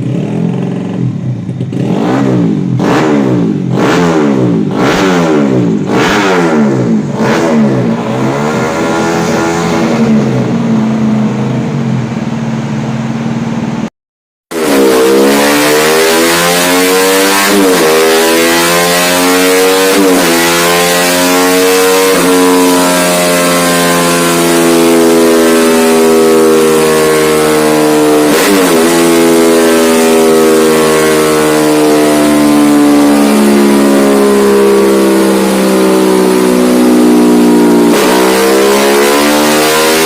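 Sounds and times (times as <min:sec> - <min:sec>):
motorcycle engine revving: 0:00.0 - 0:13.9, 0:14.5 - 0:40.0.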